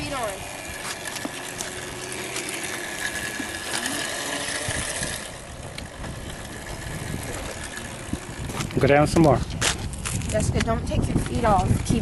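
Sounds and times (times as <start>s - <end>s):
electric scooter motor whine: 0.0s - 12.0s.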